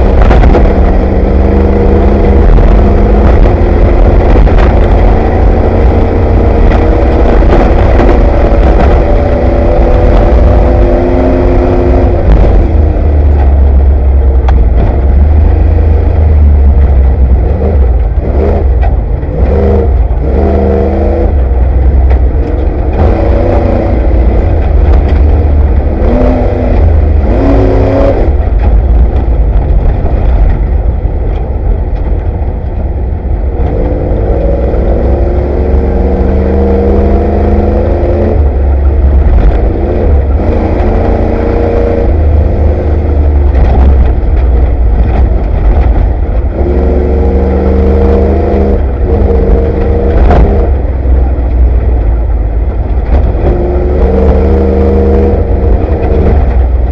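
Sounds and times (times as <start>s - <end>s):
truck engine revving: 0.0s - 31.2s, 33.2s - 56.9s
heavy low rumble: 0.0s - 56.9s.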